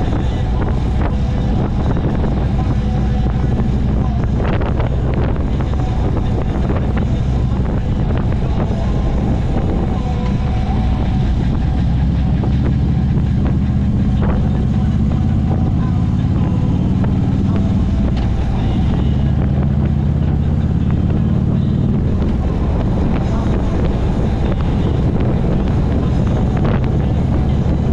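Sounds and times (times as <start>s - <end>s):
motorcycle engine running: 0.0s - 27.9s
wind noise on microphone: 0.0s - 27.9s.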